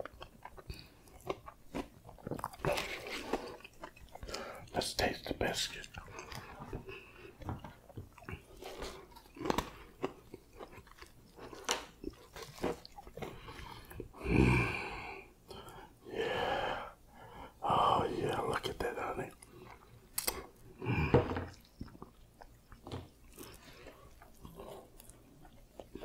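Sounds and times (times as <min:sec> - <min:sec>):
chewing biscuit: 0:00.0 - 0:14.3, 0:18.2 - 0:26.0.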